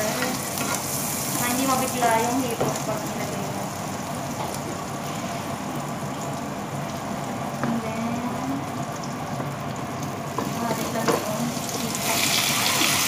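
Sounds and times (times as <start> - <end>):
butter sizzling in a frying pan: 0.0 - 8.0, 8.6 - 13.0.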